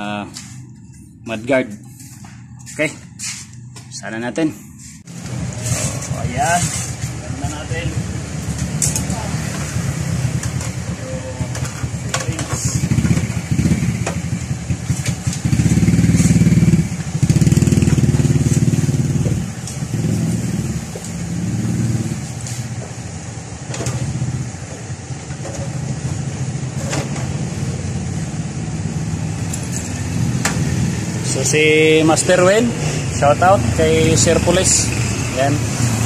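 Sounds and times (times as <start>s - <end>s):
motorcycle engine revving: 4.7s - 36.0s.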